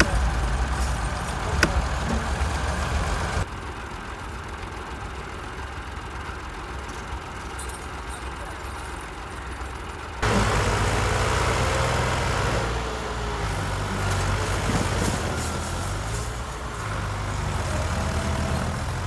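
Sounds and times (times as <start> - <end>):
engine running at low speed: 0.0 - 7.5, 10.2 - 19.0.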